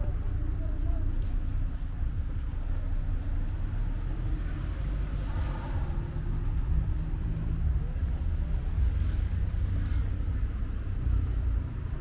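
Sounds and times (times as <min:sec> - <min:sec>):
faint voices of passers-by: 0:00.0 - 0:12.0
street traffic rumble: 0:00.0 - 0:12.0.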